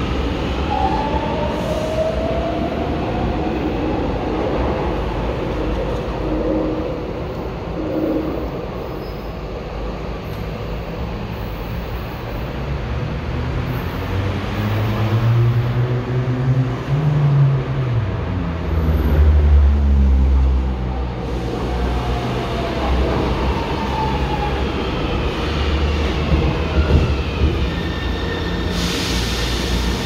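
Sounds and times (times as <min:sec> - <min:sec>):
metro train approaching: 0:00.0 - 0:30.0.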